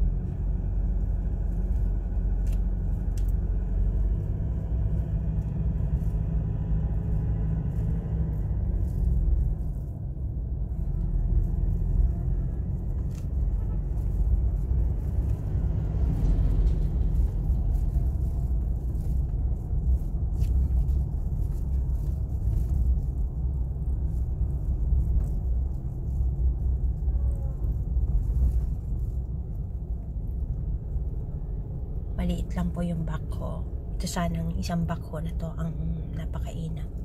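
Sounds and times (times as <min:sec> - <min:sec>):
car interior road and engine noise: 0:00.0 - 0:37.0.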